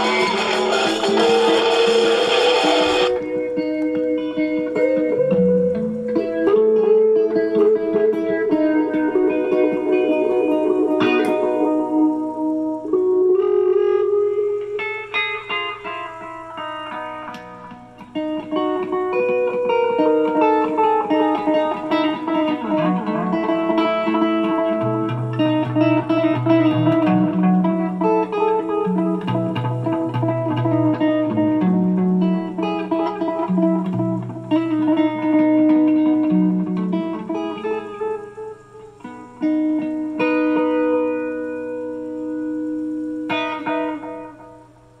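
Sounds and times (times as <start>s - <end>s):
electric guitar with effects: 0.0s - 45.0s.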